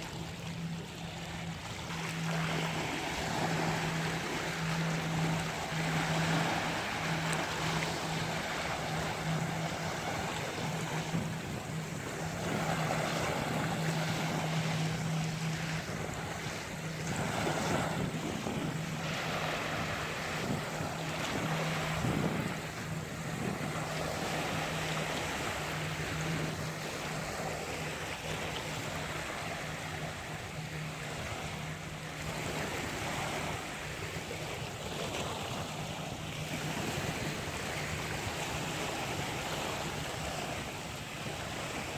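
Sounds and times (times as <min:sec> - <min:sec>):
steady low hum: 0:00.0 - 0:41.9
waves breaking on a beach: 0:00.0 - 0:41.9.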